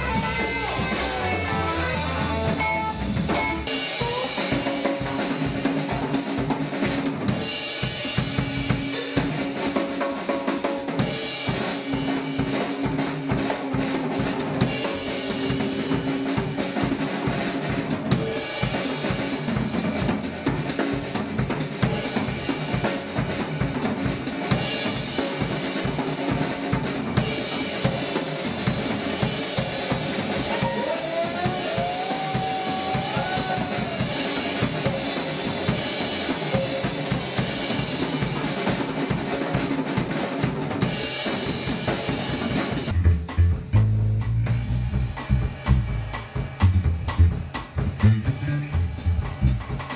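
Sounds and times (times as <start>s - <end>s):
drum kit played hard: 0.0s - 49.9s
live band music: 0.0s - 49.9s.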